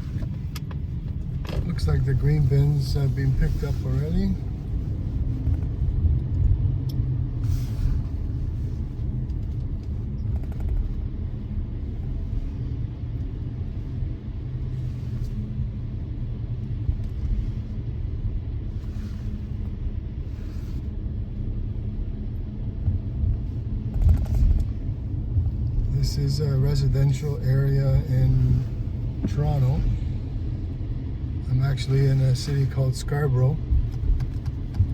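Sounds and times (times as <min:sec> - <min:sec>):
car interior road rumble: 0:00.0 - 0:34.9.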